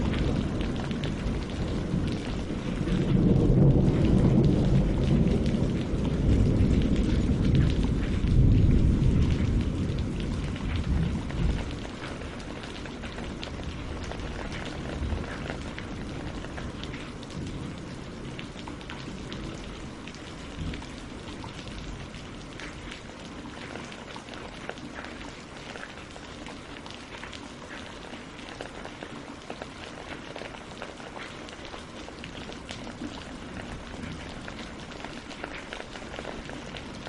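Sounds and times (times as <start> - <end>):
rain on water and leaves: 0.0 - 37.0.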